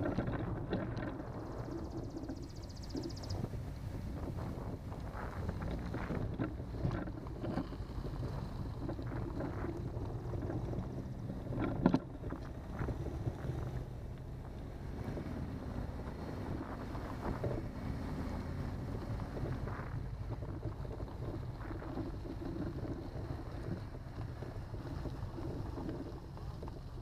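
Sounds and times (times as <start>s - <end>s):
car driving rumble: 0.0s - 27.0s
wind buffeting microphone: 0.0s - 27.0s.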